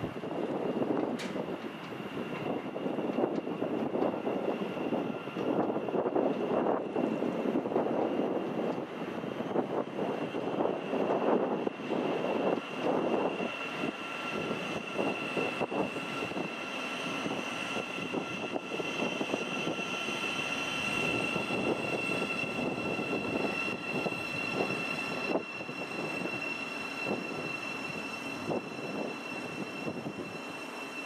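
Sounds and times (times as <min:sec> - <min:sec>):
electric train whine: 0:00.0 - 0:31.0
rumble of train wheels: 0:00.0 - 0:31.0.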